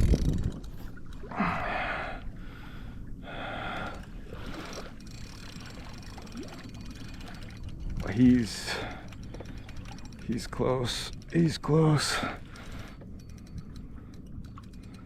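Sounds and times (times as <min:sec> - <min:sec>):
water and wind rumble: 0:00.0 - 0:15.0.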